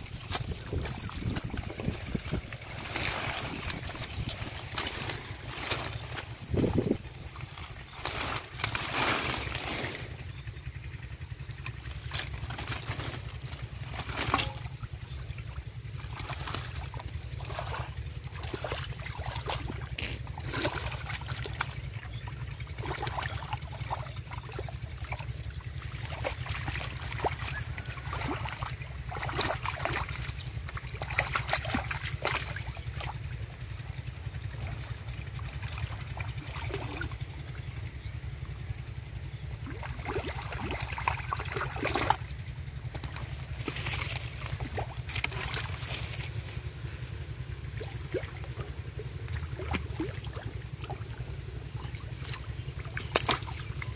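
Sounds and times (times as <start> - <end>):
hands splashing in muddy water: 0.0 - 10.7, 11.6 - 37.7, 39.6 - 46.4, 47.7 - 53.9
low rumble: 0.0 - 53.9.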